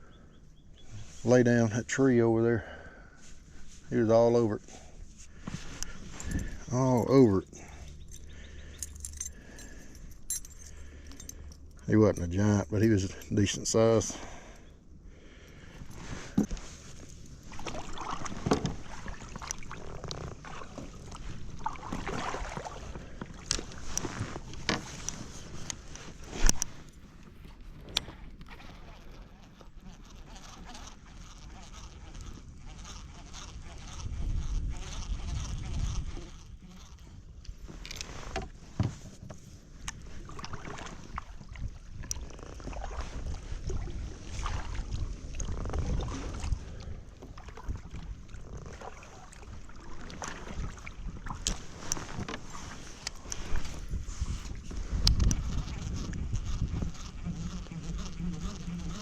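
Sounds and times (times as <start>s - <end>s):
water swishing around kayak: 0.7s - 59.0s.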